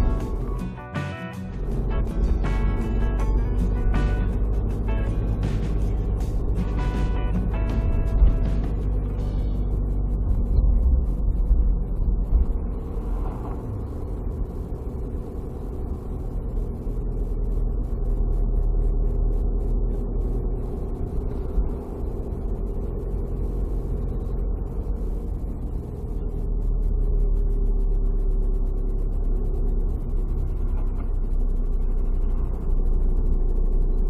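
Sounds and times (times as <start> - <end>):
car engine: 0.0 - 34.0
road rumble: 0.0 - 34.0.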